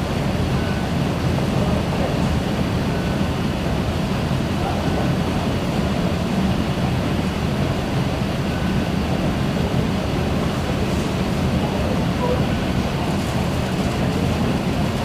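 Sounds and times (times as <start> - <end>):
electric train rumbling on rails: 0.0 - 15.0.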